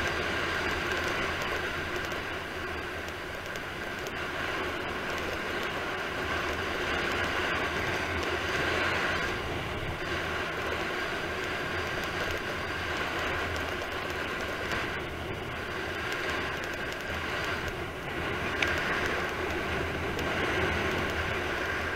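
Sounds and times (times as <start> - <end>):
tyres rolling on asphalt: 0.0 - 21.9.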